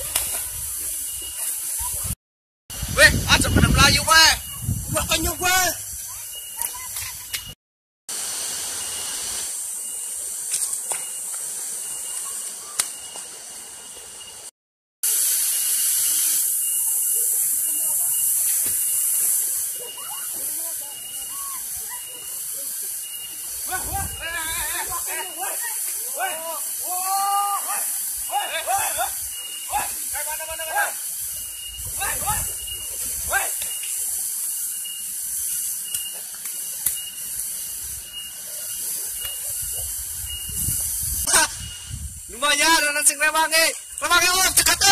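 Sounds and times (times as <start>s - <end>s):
outdoor ambience hiss: 0.0s - 44.9s.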